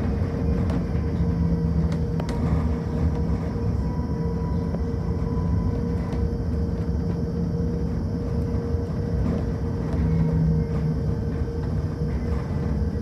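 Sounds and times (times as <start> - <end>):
steady electric hum: 0.0 - 13.0.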